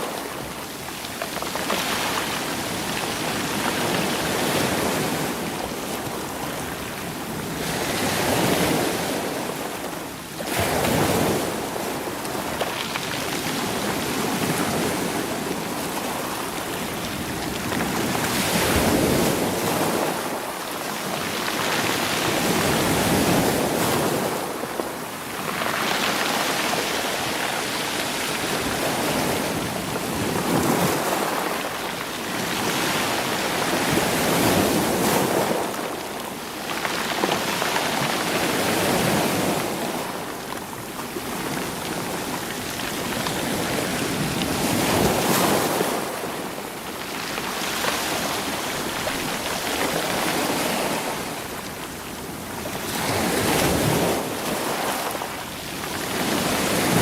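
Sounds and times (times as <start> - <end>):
sea waves washing against rocks: 0.0 - 57.0.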